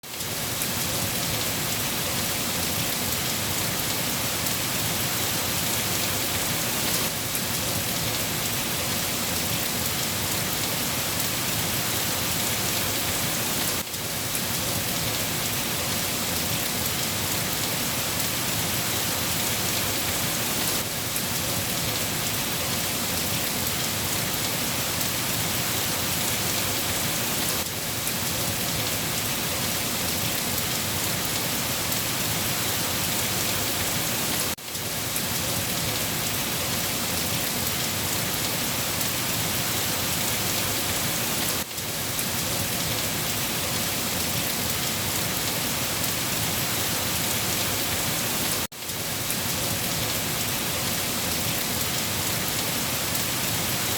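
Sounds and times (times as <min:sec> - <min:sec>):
rain falling steadily: 0:00.0 - 0:53.9.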